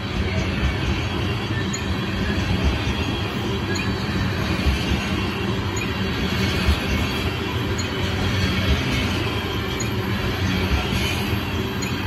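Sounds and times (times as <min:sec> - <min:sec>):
train cars rolling on rails: 0:00.0 - 0:12.0.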